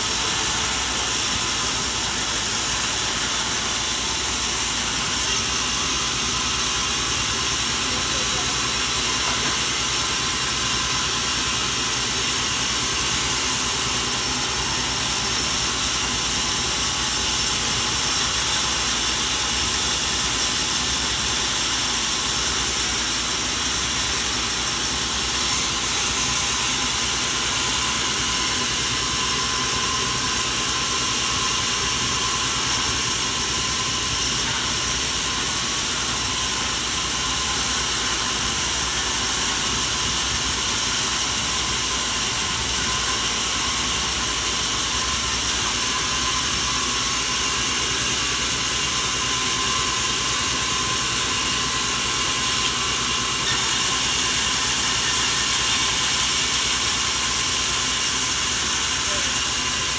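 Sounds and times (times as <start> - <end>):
motor running: 0.0 - 59.9.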